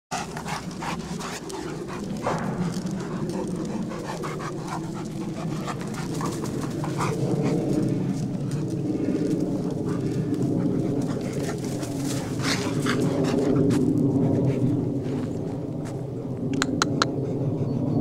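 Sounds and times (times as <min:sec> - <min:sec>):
dogs grunting and mouthing: 0:00.1 - 0:15.6, 0:16.5 - 0:18.0
steady low rumble: 0:00.1 - 0:18.0.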